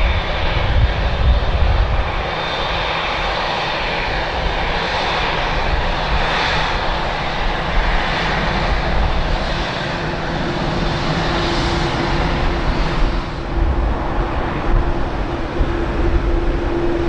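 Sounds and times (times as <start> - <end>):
airliner engines rushing: 0.0 - 17.0.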